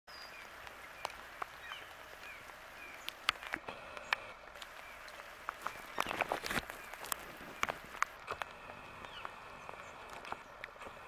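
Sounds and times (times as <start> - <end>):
rain hiss: 0.1 - 11.0
small birds chirping: 0.1 - 11.0
raindrop taps: 0.3 - 11.0.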